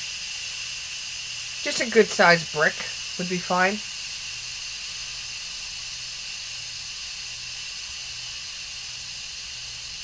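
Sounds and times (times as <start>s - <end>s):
steam valve hissing: 0.0s - 10.0s.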